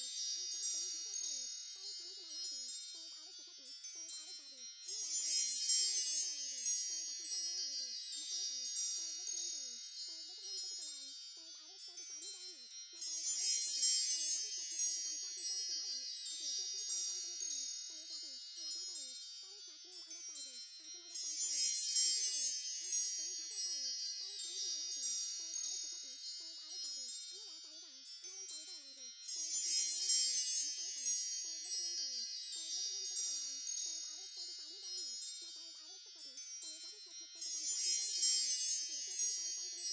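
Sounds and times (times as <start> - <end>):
wind chimes tinkling: 0.0 - 39.9.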